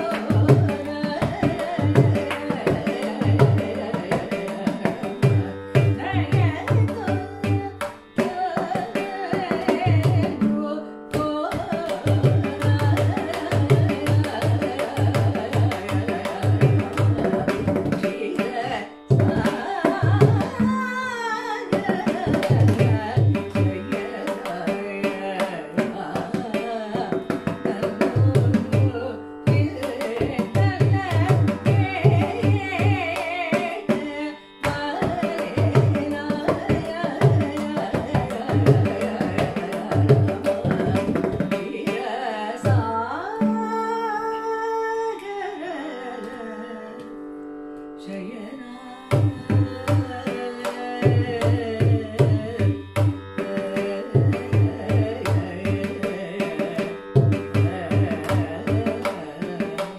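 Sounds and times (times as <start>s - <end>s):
woman singing: 0.0s - 59.9s.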